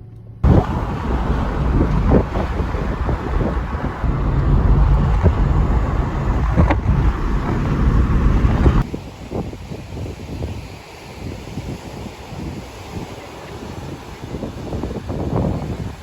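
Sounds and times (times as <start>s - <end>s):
wind buffeting microphone: 0.4s - 16.0s.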